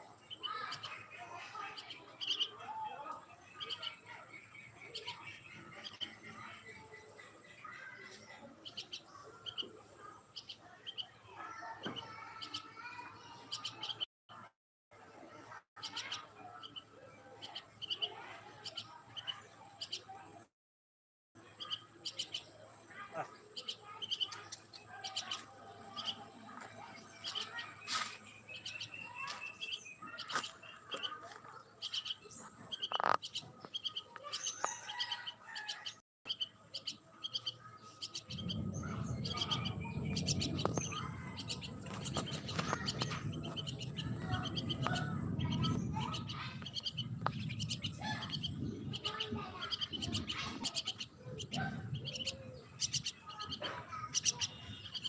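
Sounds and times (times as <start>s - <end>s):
small birds chirping: 0.0s - 14.1s, 15.2s - 20.5s, 21.4s - 55.0s.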